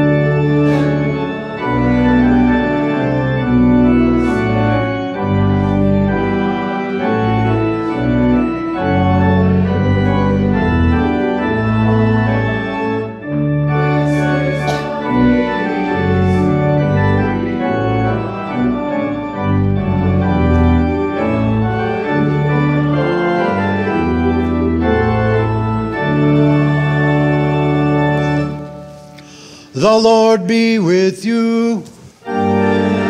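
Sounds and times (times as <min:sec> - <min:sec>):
church organ chords: 0:00.0 - 0:33.0.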